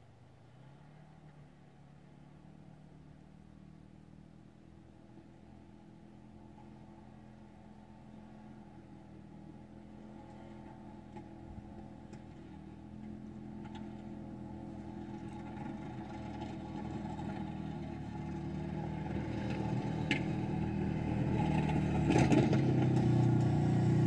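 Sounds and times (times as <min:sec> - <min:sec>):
distant snowplow engine humming: 0:00.0 - 0:24.0.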